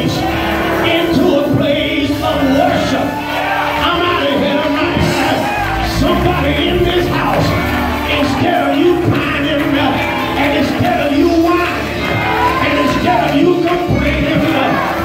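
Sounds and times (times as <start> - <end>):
church praise music with singing: 0.0 - 15.0
congregation shouting and whooping: 0.0 - 15.0.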